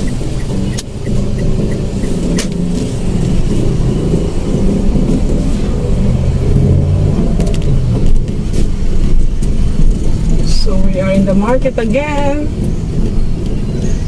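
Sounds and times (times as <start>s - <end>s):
car engine running: 0.0s - 14.0s
road rumble: 0.0s - 14.0s.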